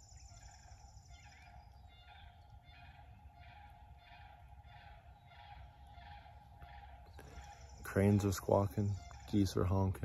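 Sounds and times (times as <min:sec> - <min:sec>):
distant bird calls: 0:00.0 - 0:10.0.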